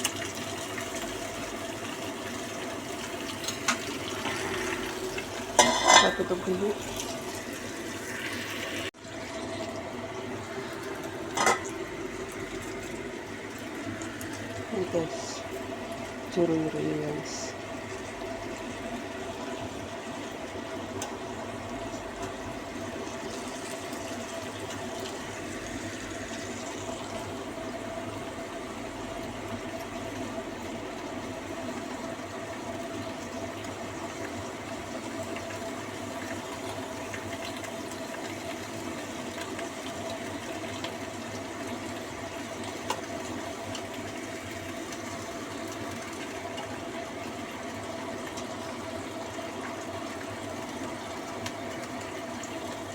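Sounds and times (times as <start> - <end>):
pot boiling under lid: 0.0 - 52.9.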